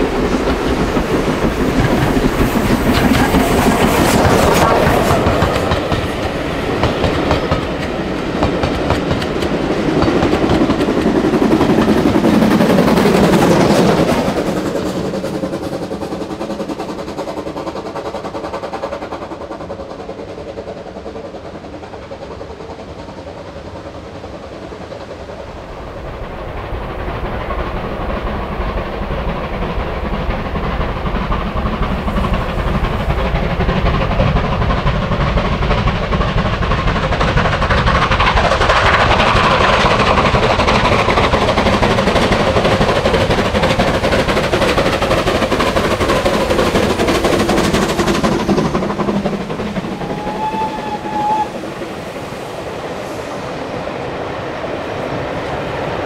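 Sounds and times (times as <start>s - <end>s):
steam locomotive working hard: 0.0s - 56.0s.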